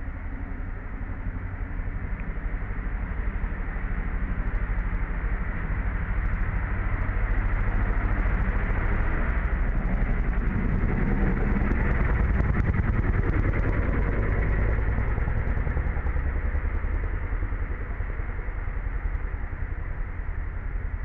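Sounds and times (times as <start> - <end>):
engine rumble: 0.0 - 21.0.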